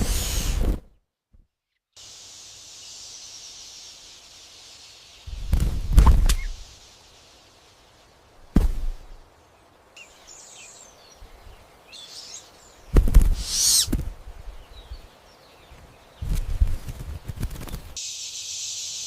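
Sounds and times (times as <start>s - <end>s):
bird chirping: 1.7s - 19.0s.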